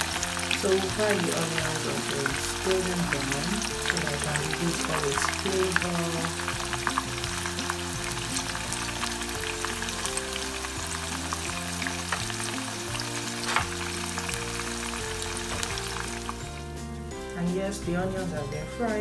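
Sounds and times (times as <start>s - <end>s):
onions sizzling in hot oil: 0.0s - 17.8s
background music: 0.0s - 19.0s.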